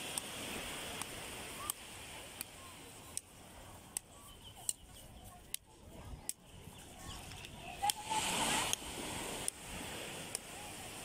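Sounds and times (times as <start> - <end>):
surf hissing: 0.0 - 11.0
wind: 0.0 - 11.0
faint distant voices: 1.2 - 11.0.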